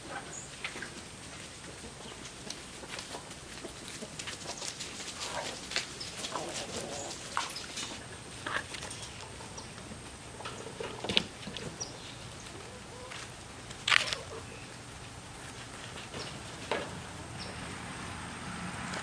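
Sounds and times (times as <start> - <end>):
chickens clucking: 0.0 - 18.1
pecking and scratching in leaves: 0.3 - 10.2, 11.3 - 16.6.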